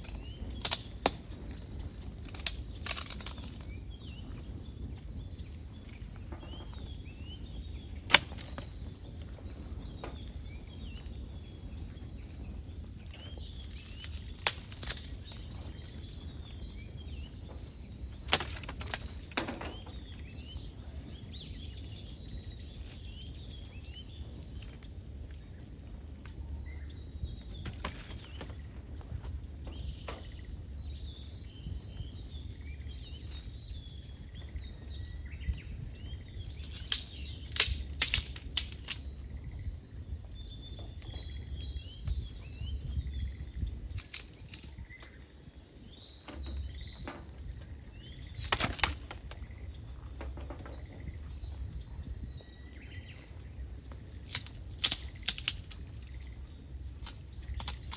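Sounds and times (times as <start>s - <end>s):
songbird singing: 0.0s - 57.9s
steady low rumble: 3.6s - 57.9s.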